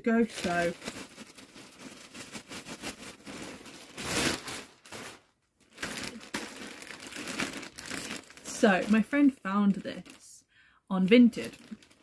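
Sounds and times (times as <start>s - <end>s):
plastic bag crinkling: 0.0s - 10.3s, 11.0s - 12.0s.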